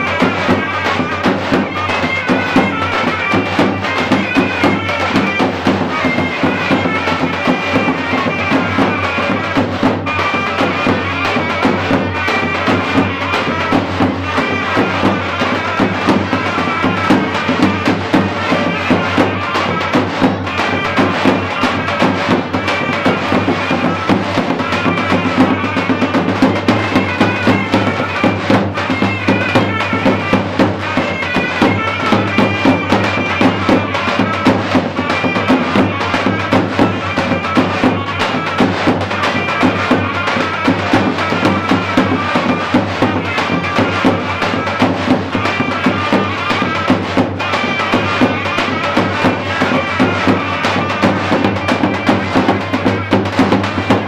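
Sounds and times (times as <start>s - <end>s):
shrill reed melody: 0.0s - 54.0s
steady drum beat: 0.0s - 54.0s.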